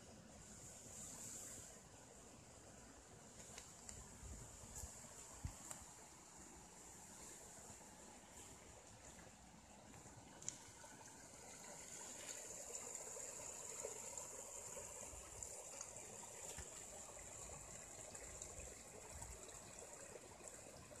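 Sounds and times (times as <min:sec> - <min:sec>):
stream trickling: 0:00.0 - 0:21.0.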